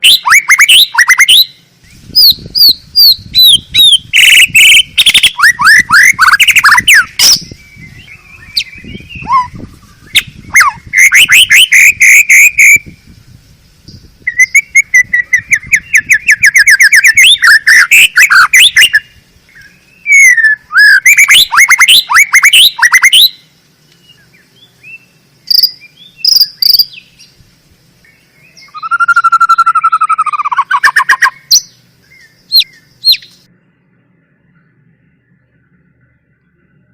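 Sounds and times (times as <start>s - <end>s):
bird singing whistled notes: 0.0s - 13.2s, 13.8s - 27.4s, 28.0s - 33.5s.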